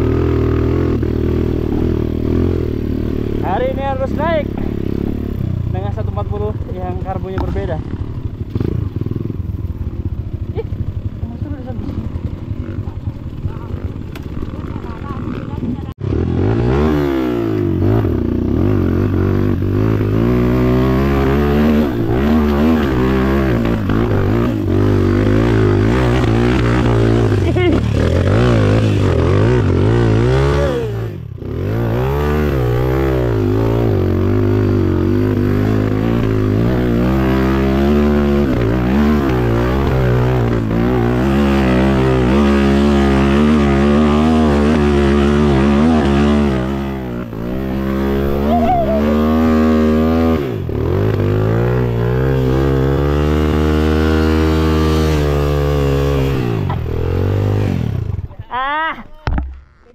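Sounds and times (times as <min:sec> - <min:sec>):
dirt bike engine revving: 0:00.0 - 0:58.7.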